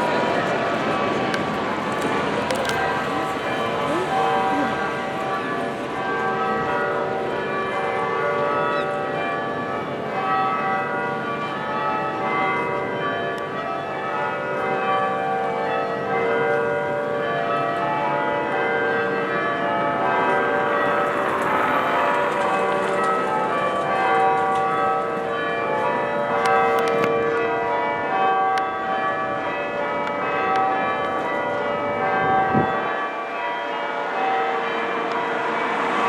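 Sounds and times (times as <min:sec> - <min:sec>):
church bells ringing in changes: 0:00.0 - 0:36.0.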